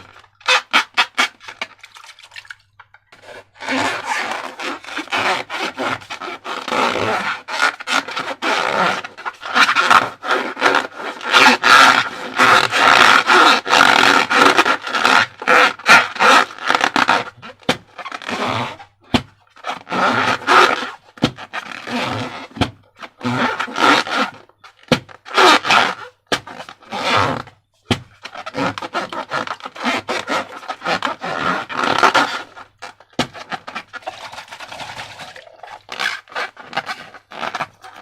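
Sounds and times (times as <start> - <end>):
rubber balloons squeaking: 0.0 - 1.5, 3.5 - 38.0.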